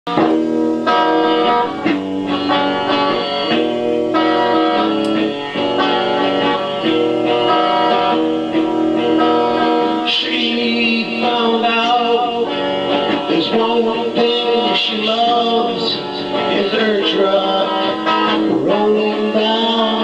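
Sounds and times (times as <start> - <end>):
guitar strumming and plucking: 0.1 - 20.0.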